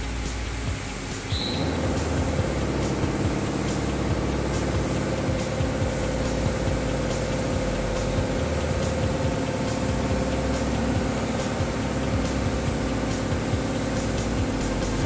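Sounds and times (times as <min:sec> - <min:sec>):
mechanical drone with hiss: 0:00.0 - 0:15.0.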